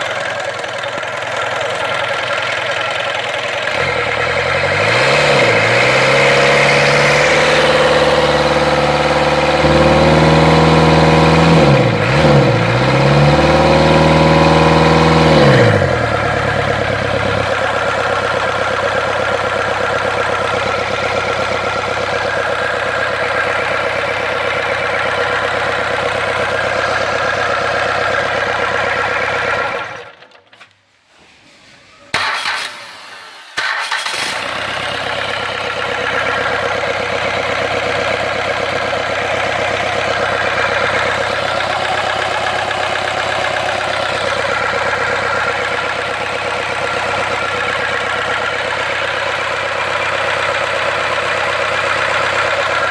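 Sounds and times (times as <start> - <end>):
diesel engine revving and idling: 0.0 - 30.3, 32.2 - 52.9.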